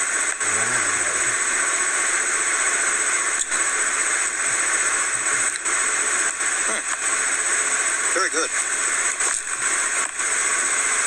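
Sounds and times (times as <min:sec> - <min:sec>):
loud static hiss: 0:00.0 - 0:11.0.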